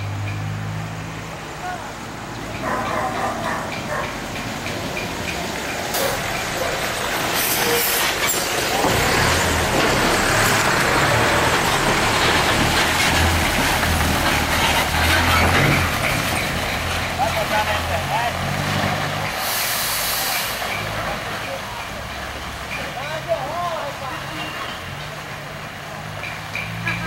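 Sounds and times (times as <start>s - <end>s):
bus engine hum: 0.0s - 22.8s
road noise: 0.0s - 27.0s.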